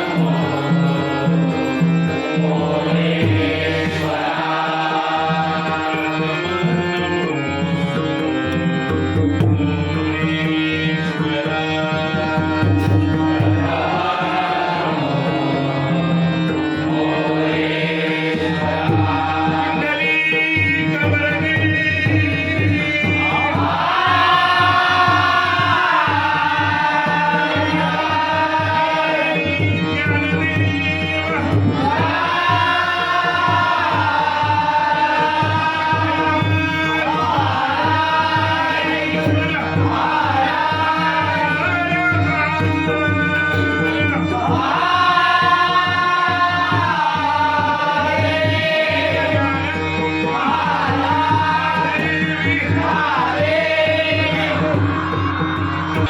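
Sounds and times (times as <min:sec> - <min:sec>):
harmonium: 0:00.0 - 0:56.0.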